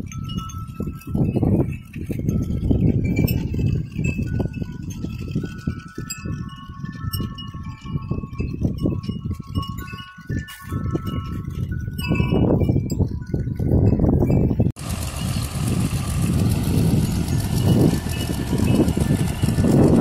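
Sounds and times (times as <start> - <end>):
metal wind chime ringing: 0.0 - 15.5, 16.2 - 20.0
low rough rumble: 0.0 - 20.0.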